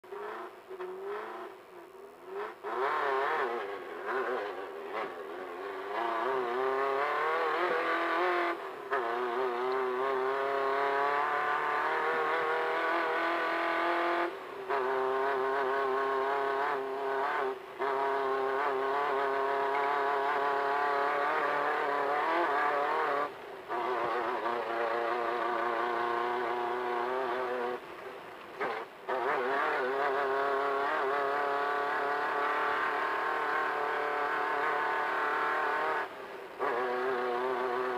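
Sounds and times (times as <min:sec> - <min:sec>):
race car engine accelerating: 0:00.0 - 0:37.9.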